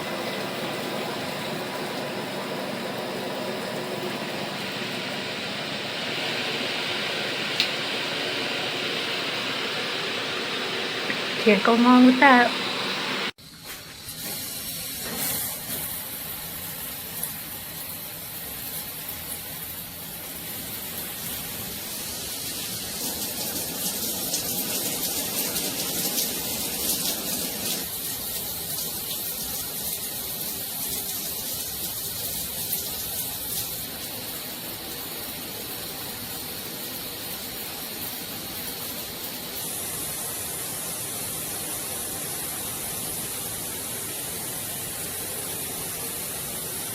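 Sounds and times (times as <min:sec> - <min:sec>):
shower water spraying: 0:00.0 - 0:46.9.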